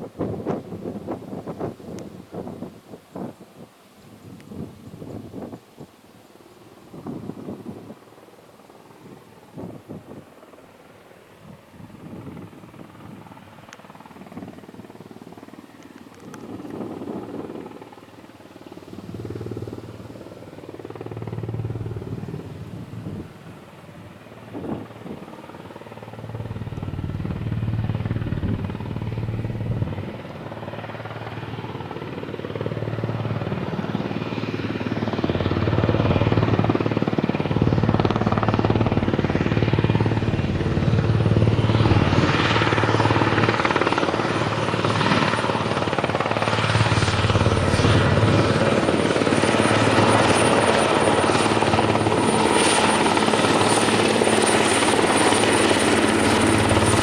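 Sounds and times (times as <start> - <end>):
helicopter rotor beat: 0.0 - 3.6, 6.4 - 57.0
thin high turbine whine: 0.0 - 57.0.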